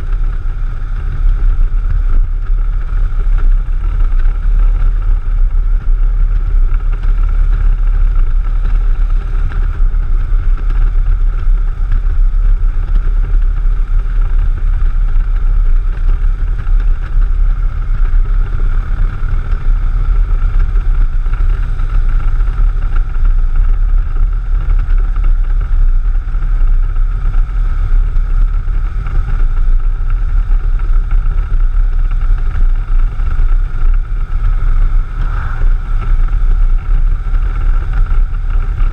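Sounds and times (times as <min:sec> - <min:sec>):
motorcycle engine rumble: 0:00.0 - 0:38.9
wind buffeting microphone: 0:00.0 - 0:38.9.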